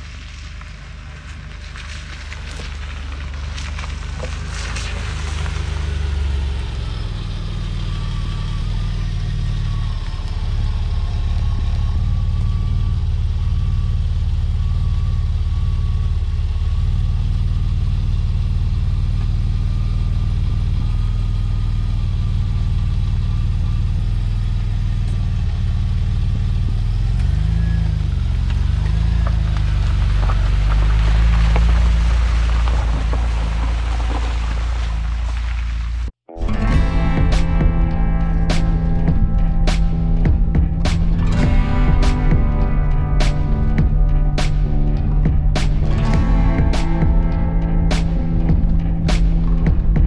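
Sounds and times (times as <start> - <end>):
car engine droning: 0.0 - 50.0.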